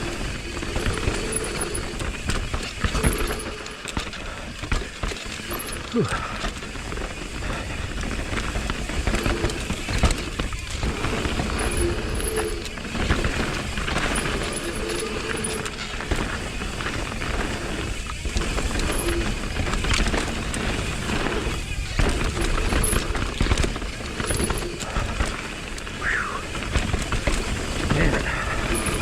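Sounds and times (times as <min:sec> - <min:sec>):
bike knocking and rattling: 0:00.0 - 0:29.0
bike tyres on dirt and rocks: 0:00.0 - 0:29.0.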